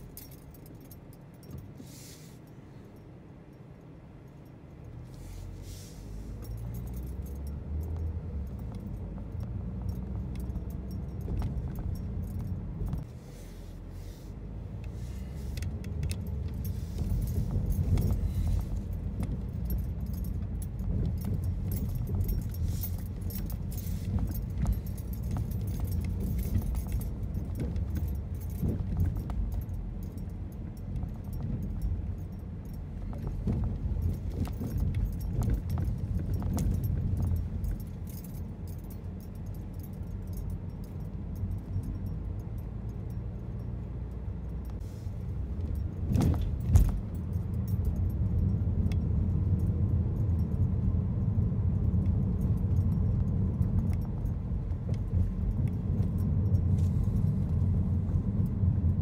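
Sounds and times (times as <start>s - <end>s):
rattling and jingling clicks: 0.0s - 59.0s
tyre and engine rumble: 0.0s - 59.0s.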